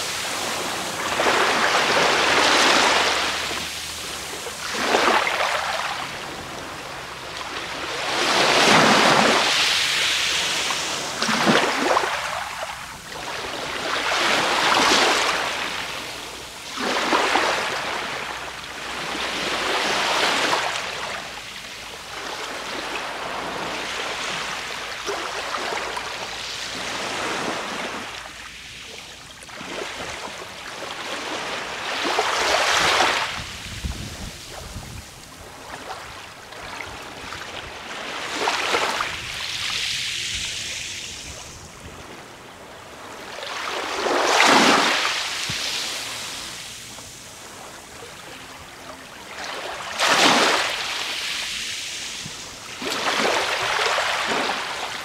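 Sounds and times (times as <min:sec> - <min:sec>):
small waves lapping on shore: 0:00.0 - 0:55.0.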